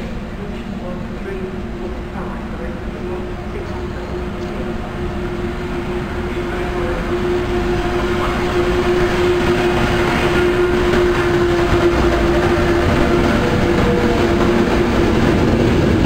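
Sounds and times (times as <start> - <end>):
train passing: 0.0 - 16.0.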